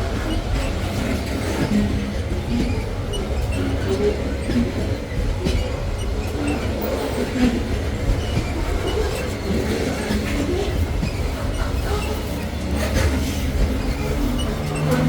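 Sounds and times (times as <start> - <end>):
freight train wheels rumbling: 0.0 - 15.0
wheels clacking: 0.0 - 15.0
wheels squealing: 0.0 - 15.0.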